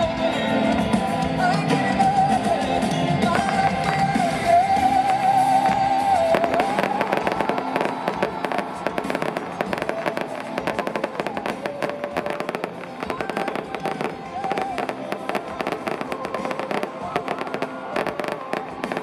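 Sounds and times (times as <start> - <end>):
concert music: 0.0 - 19.0
fireworks crackling and popping: 0.8 - 19.0.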